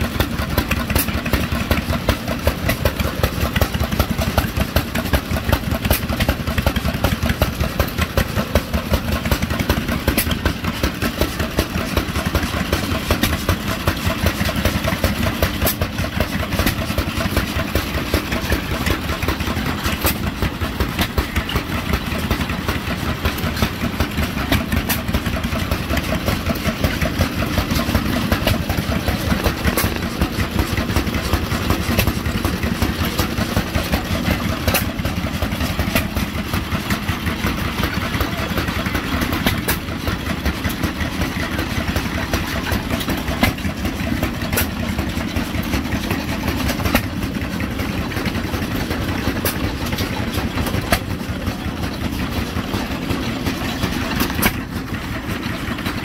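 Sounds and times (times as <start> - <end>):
engine sharp crack: 0.0 - 56.0
stationary engines chuffing: 0.0 - 56.0.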